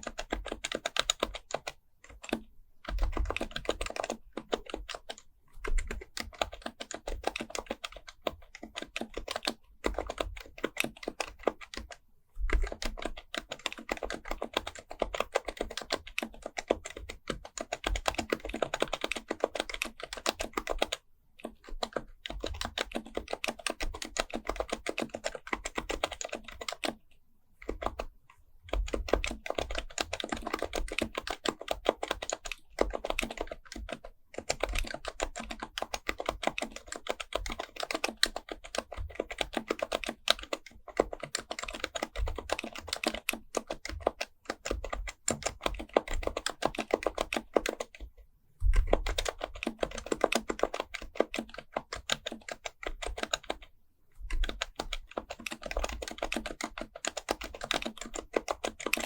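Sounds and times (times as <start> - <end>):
fast keyboard typing: 0.0 - 59.0.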